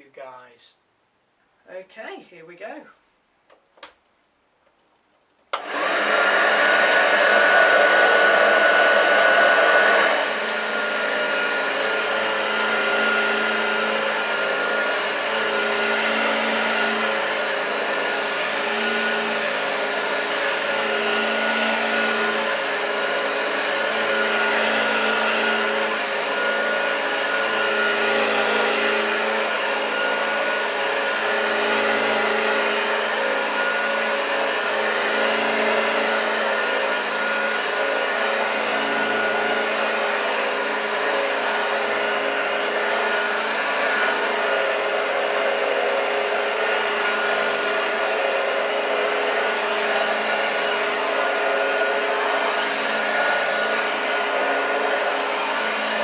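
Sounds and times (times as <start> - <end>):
vacuum cleaner running: 5.5 - 56.0.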